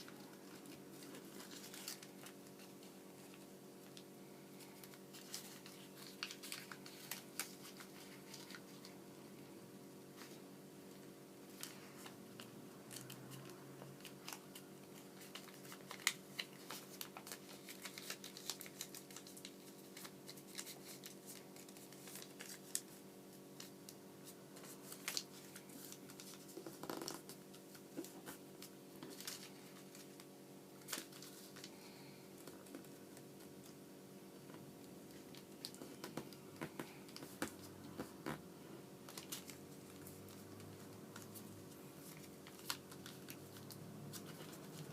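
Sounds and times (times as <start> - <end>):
paper being folded by hand: 0.0 - 9.0, 10.0 - 38.4, 39.0 - 44.9.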